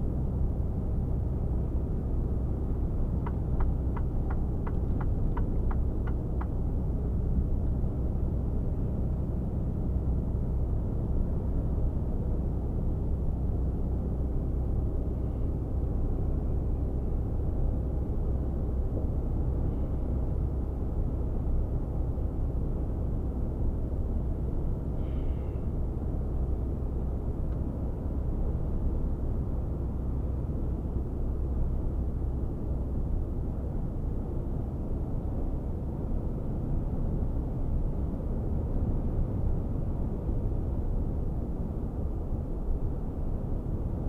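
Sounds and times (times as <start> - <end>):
diesel truck engine drone: 0.0 - 44.0.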